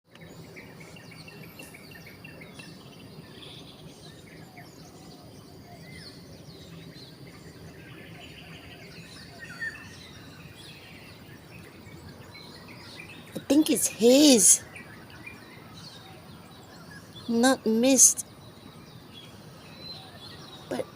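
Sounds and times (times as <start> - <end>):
small birds chirping: 0.1 - 20.9.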